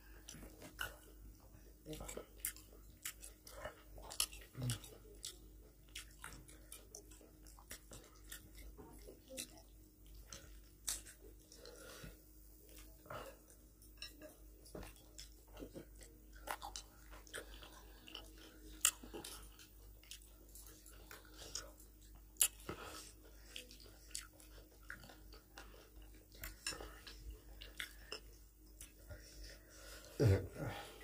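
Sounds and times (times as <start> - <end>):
chewing and mouth sounds: 0.1 - 30.8.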